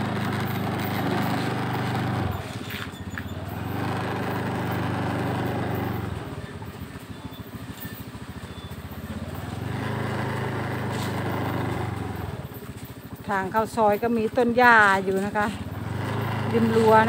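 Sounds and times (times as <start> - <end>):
small motorcycle engine: 0.0 - 17.0.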